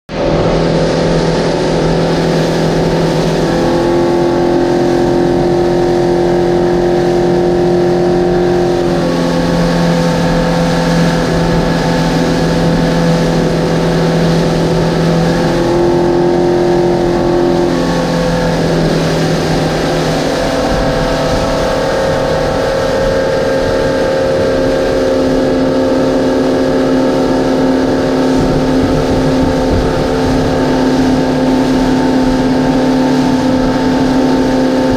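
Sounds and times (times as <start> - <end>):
outboard motors droning: 0.1 - 34.9
water rushing: 0.1 - 34.9
wind: 0.1 - 34.9.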